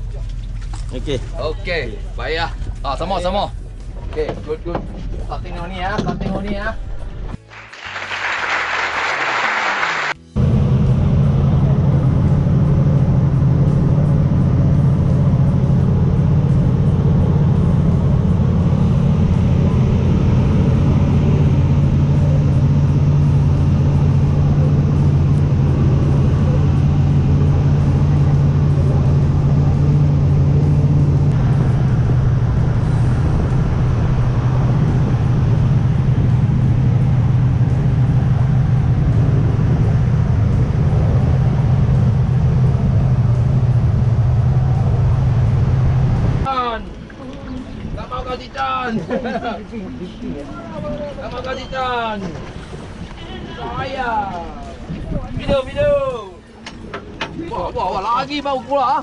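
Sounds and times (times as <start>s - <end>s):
boat engine low hum: 0.0s - 8.1s, 10.1s - 58.7s.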